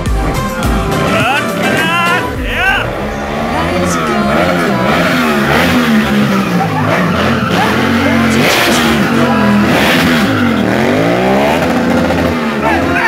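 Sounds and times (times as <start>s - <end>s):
motorcycle engine revving: 0.0s - 13.0s
tyre squealing and skidding: 0.3s - 13.0s.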